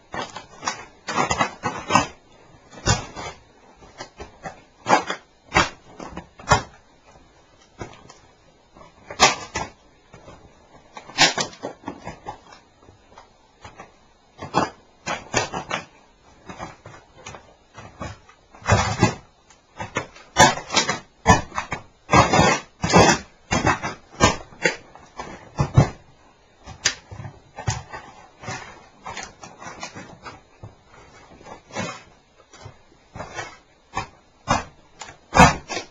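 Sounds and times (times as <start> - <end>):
plastic cracking and crunching: 0.0 - 35.9.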